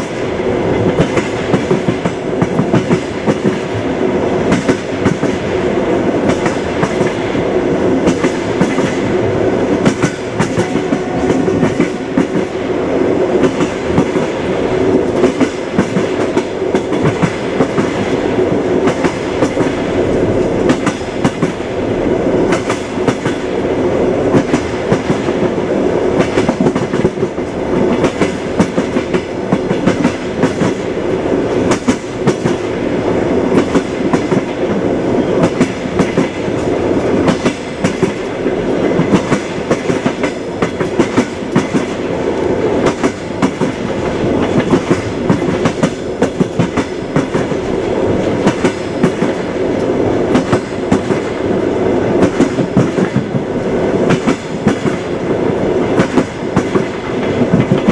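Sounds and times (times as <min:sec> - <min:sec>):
train rumble: 0:00.0 - 0:57.9
train wheels clacking: 0:00.0 - 0:57.9.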